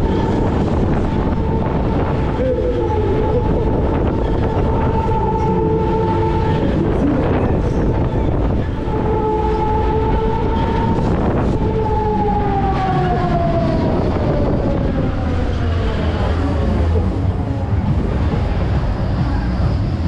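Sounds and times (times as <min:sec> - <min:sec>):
ride drive whine: 0:00.0 - 0:20.0
rumble of wind and machinery: 0:00.0 - 0:20.0.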